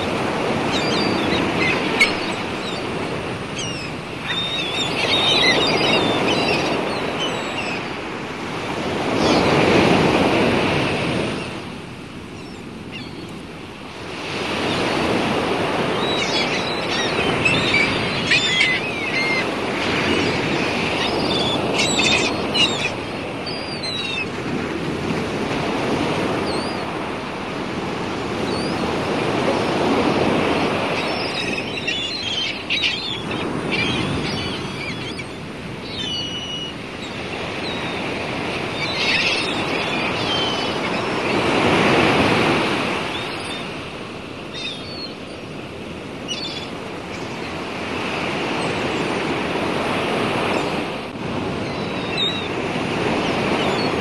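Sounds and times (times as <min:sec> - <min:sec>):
sea water washing and surging: 0:00.0 - 0:54.0.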